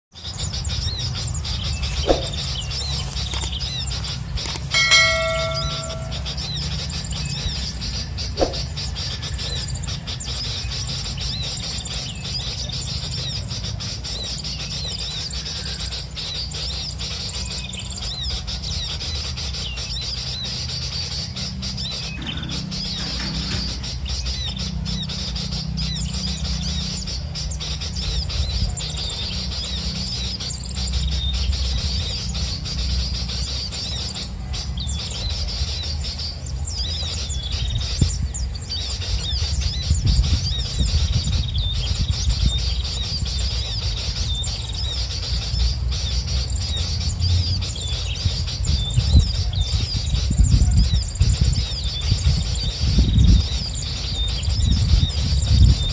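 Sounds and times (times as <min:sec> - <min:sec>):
small birds chirping: 0:00.1 - 0:55.9.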